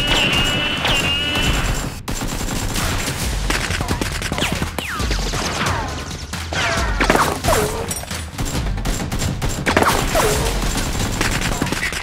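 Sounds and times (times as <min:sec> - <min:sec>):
rapid gunfire sound effects: 0:00.0 - 0:12.0.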